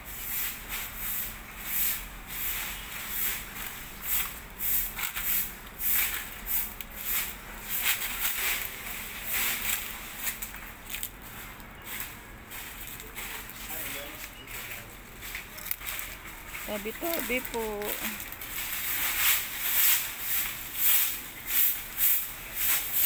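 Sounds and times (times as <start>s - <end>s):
footsteps crunching dry leaves: 2.4s - 23.0s.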